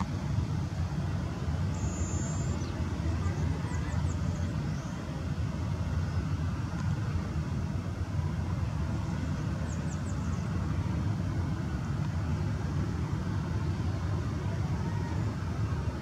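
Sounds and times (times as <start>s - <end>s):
distant jet engines rumbling: 0.0s - 16.0s.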